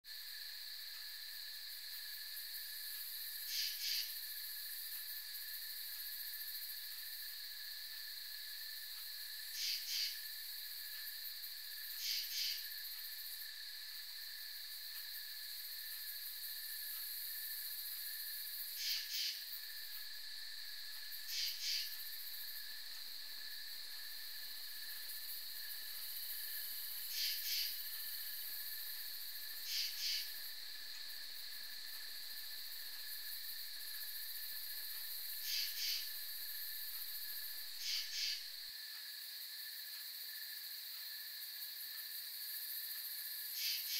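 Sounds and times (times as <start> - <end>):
crickets and katydids shrilling: 0.1 - 38.8, 42.4 - 43.9
two-part rasping insect call: 0.1 - 43.9.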